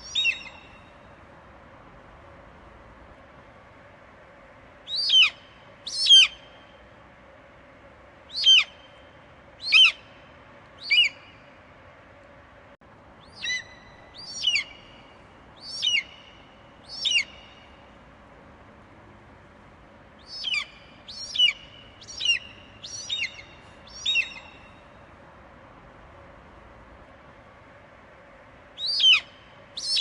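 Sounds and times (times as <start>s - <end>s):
faint background hiss: 0.0s - 30.0s.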